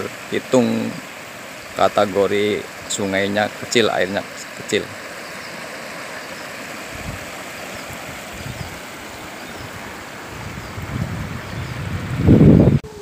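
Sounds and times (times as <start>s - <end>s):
river rushing over stones: 0.0s - 12.6s.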